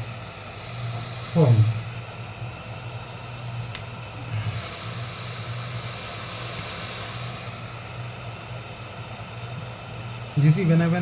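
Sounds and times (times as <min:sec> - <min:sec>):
hot-air blower running: 0:00.0 - 0:11.0.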